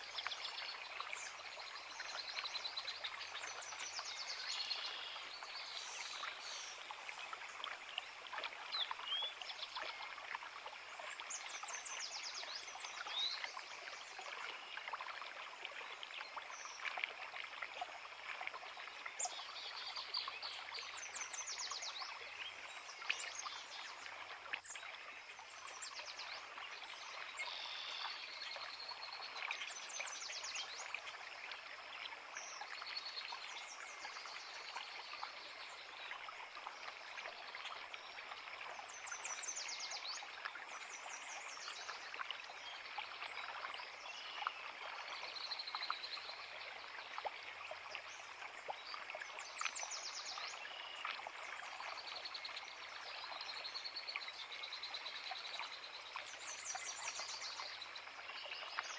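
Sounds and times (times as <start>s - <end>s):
creek flowing over rocks: 0.0s - 58.9s.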